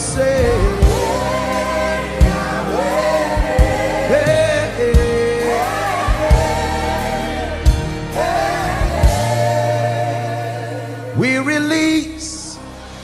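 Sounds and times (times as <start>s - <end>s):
bass line: 0.0s - 11.5s
choir singing held notes: 0.0s - 13.0s
keyboard pad chords: 0.0s - 13.0s.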